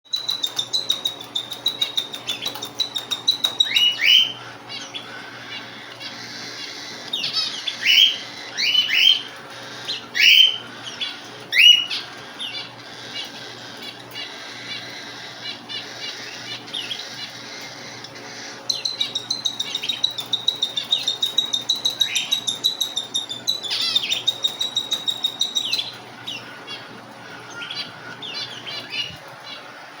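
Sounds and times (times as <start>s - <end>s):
cockatiels whistled calls: 0.1s - 29.2s
cockatiels ticking chatter: 0.1s - 30.0s.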